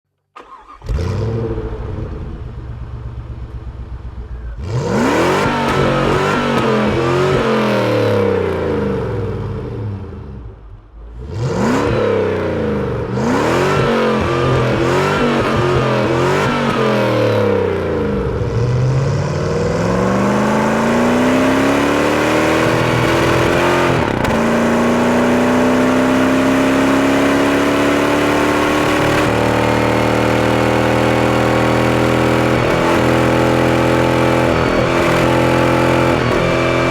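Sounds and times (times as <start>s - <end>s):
car engine revving: 0.4s - 36.9s.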